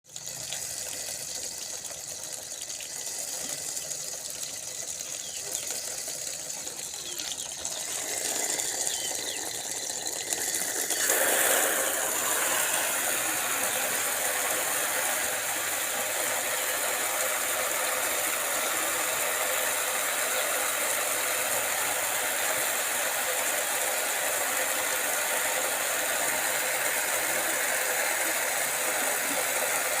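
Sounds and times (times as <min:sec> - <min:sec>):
water spray hissing: 0:00.4 - 0:30.0.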